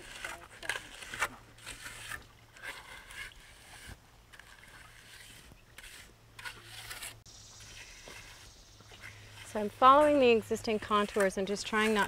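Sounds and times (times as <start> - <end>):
trowel scraping wet plaster: 0.0 - 12.0.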